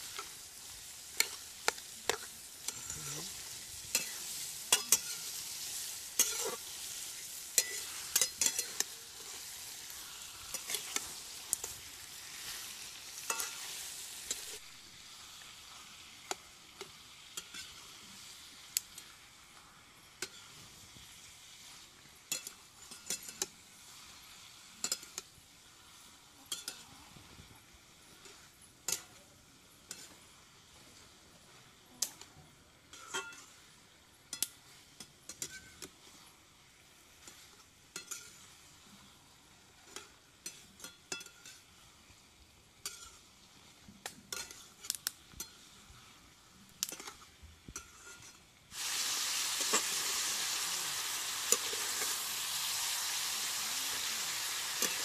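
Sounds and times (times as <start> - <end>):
metal spatula scraping a pan: 0.0 - 19.2, 20.1 - 27.2, 27.9 - 32.3, 32.9 - 39.1, 39.7 - 41.8, 42.8 - 46.2, 46.8 - 55.0
chicken sizzling in a pan: 0.0 - 55.0.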